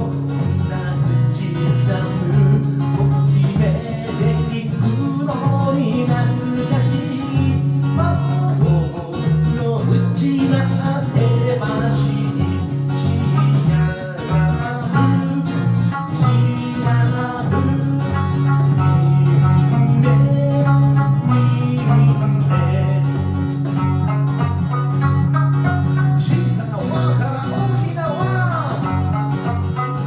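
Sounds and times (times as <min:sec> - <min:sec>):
electric lute plucked melody: 0:00.0 - 0:30.0.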